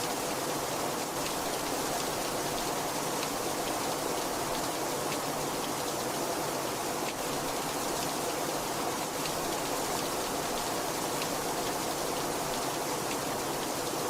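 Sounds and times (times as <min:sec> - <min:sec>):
heavy rainfall hiss: 0:00.0 - 0:14.0.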